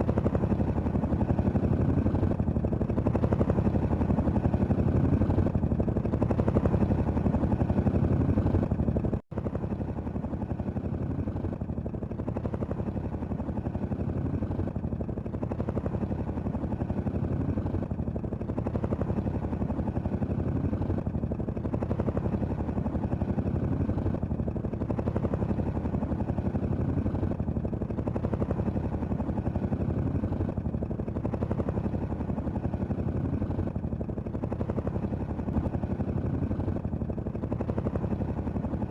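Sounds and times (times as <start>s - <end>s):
helicopter rotor blades beating: 0.0s - 38.9s.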